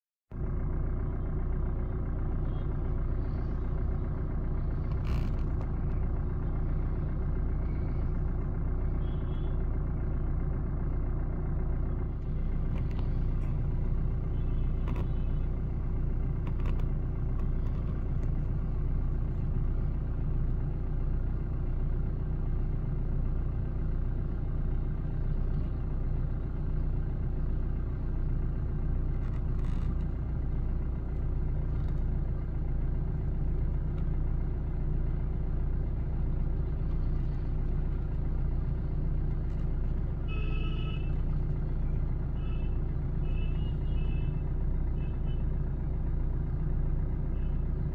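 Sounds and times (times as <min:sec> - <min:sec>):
street traffic rumble: 0:00.3 - 0:47.9.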